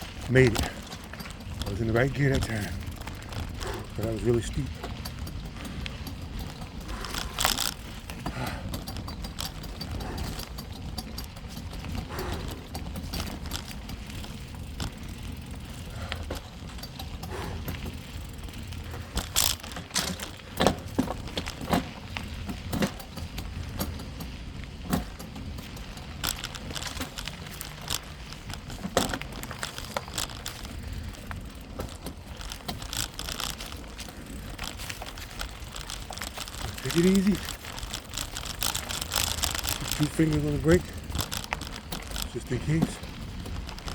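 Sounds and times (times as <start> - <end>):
bicycle tyres rumbling on dirt: 0.0 - 43.9
bike rattling over bumps: 0.0 - 43.9.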